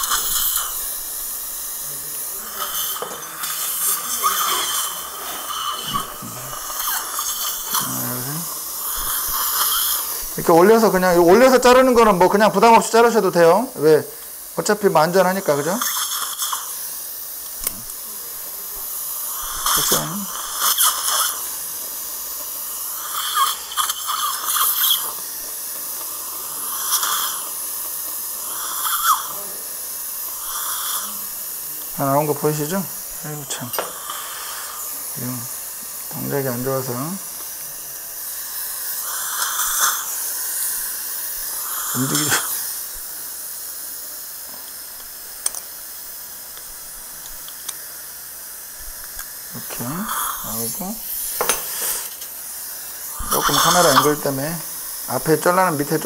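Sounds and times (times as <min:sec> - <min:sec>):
suction hissing: 0:00.0 - 0:56.0.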